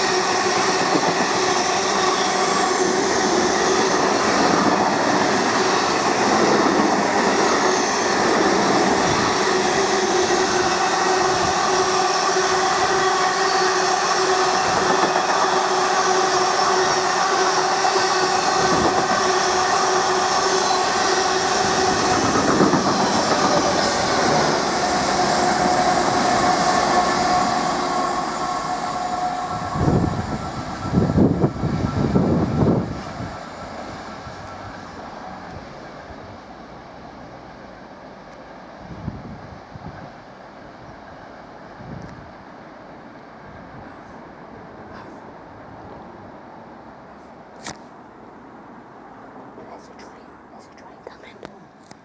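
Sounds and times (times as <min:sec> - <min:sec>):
freight train passing: 0:00.0 - 0:51.0.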